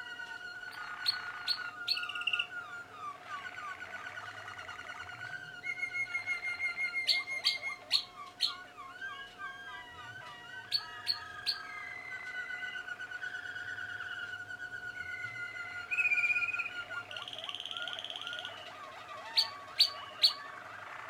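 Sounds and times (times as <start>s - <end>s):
canaries singing trills: 0.0s - 21.0s.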